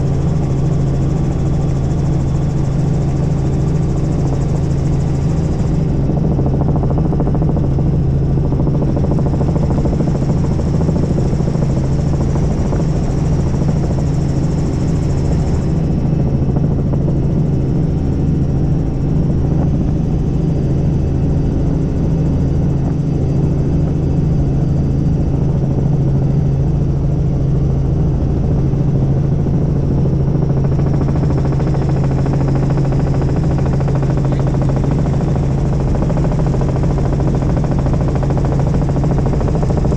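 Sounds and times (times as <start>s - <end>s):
helicopter rotor hum: 0.0s - 39.9s.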